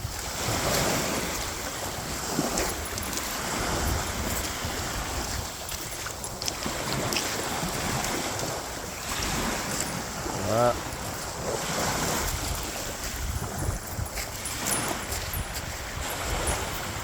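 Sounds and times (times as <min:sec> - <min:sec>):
small waves breaking on beach: 0:00.0 - 0:17.0
wind buffeting microphone: 0:00.0 - 0:17.0.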